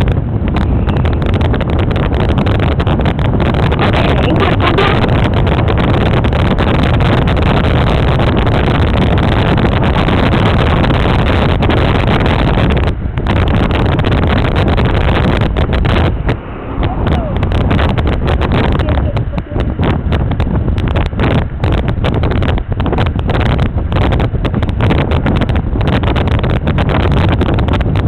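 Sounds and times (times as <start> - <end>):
vehicle running noise: 0.0 - 28.0
wind buffeting microphone: 0.0 - 28.0.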